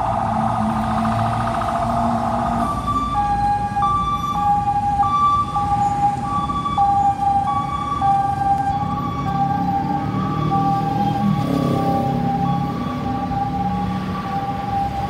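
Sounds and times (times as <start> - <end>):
emergency vehicle siren: 0.0 - 15.0
road traffic rumble: 0.0 - 15.0.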